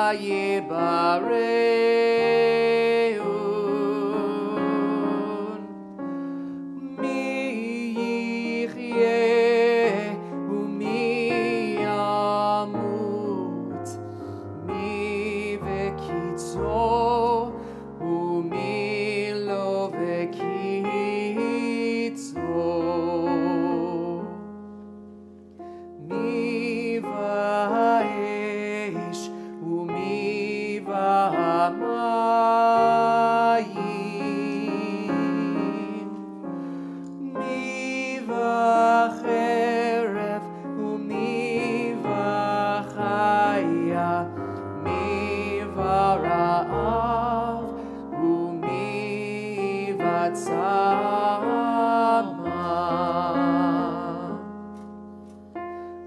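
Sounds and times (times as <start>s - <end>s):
piano accompaniment: 0.0s - 56.0s.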